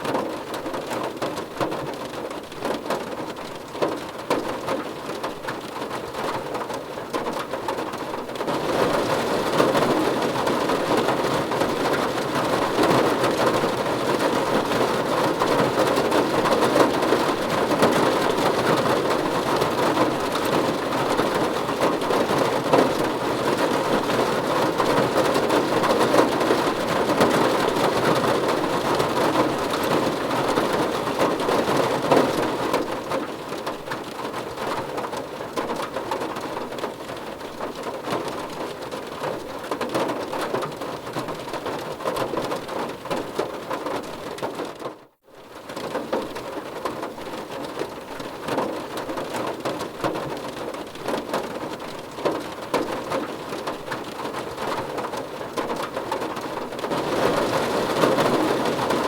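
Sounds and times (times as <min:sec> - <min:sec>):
rain on car roof: 0:00.0 - 0:59.0.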